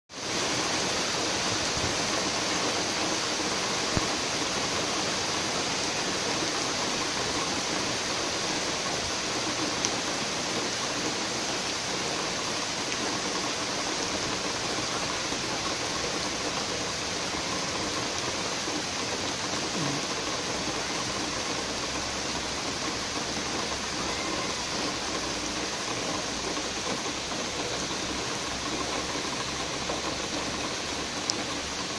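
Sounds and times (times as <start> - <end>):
heavy rain hissing: 0.1 - 31.9
raindrops ticking on hard surface: 0.2 - 31.9.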